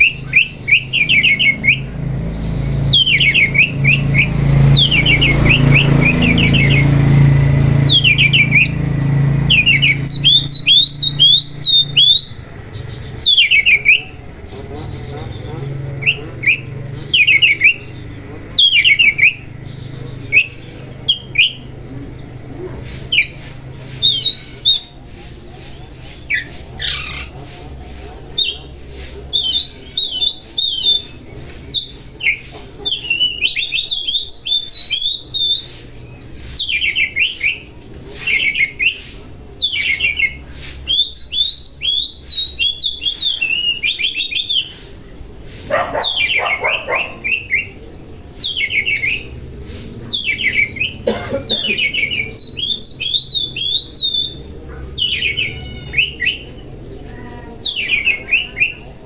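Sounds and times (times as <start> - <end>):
songbird whistling and chattering: 0.0 - 59.0.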